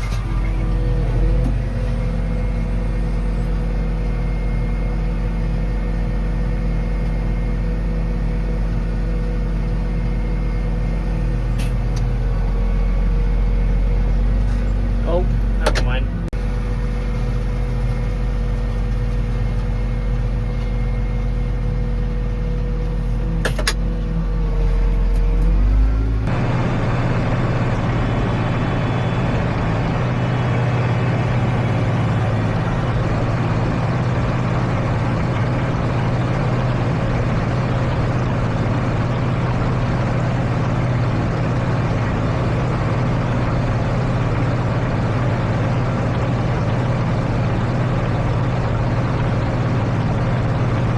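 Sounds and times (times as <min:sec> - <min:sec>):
noisy farm machinery: 0:00.0 - 0:50.9
tractor engine running: 0:00.0 - 0:50.9.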